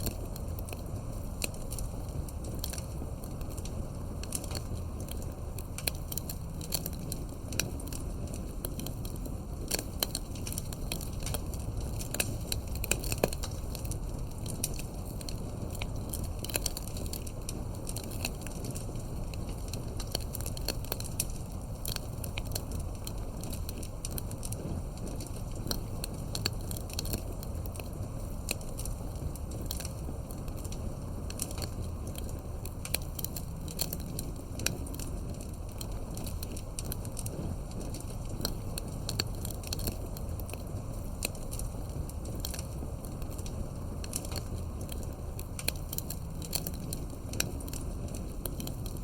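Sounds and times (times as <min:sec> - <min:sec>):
fire crackling and popping: 0:00.0 - 0:49.0
low rumble of burning: 0:00.0 - 0:49.0.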